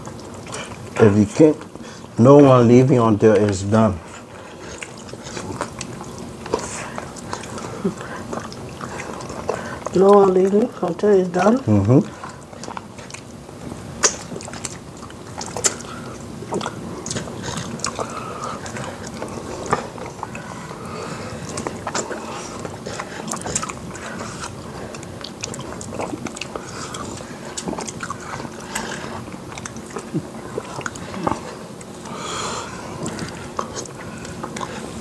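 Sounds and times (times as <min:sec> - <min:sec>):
close chewing and biting: 0:00.0 - 0:35.0.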